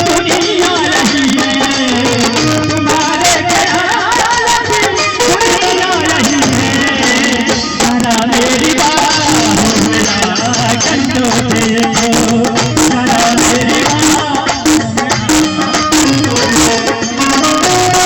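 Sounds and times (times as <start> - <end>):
hand-drum percussion: 0.0 - 18.0.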